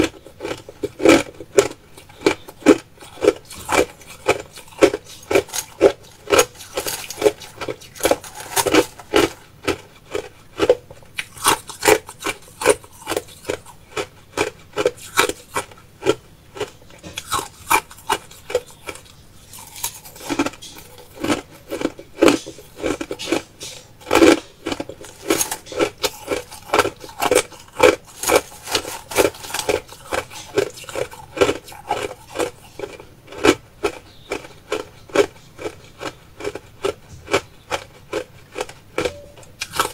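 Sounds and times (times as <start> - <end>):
crushed ice crunched by teeth: 0.0 - 39.9.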